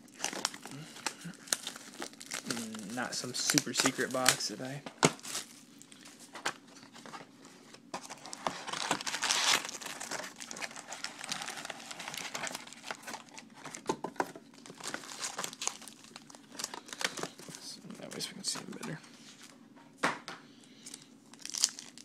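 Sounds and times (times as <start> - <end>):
plastic wrapped packs crinkling: 0.0 - 19.0, 20.8 - 22.0.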